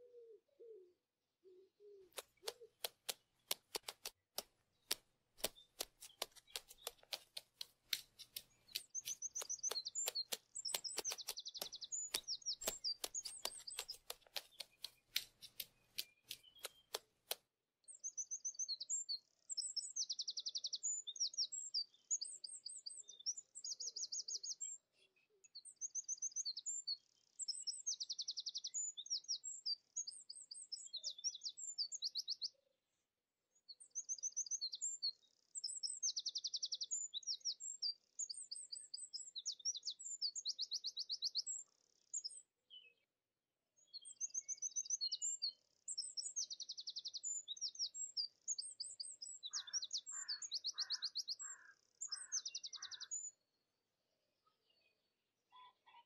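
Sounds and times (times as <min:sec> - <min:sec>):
songbird chirps and trills: 0:00.0 - 0:32.8, 0:33.5 - 0:43.2, 0:43.8 - 0:53.7, 0:54.3 - 0:56.0.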